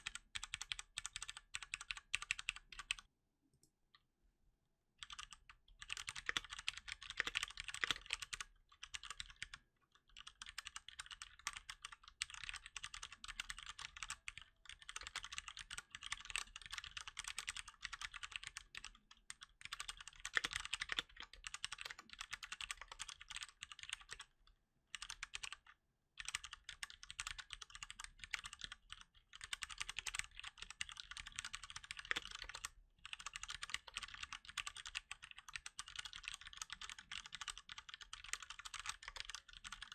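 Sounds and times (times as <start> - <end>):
mechanical keyboard typing: 0.0 - 3.0, 5.0 - 24.3, 24.9 - 39.9.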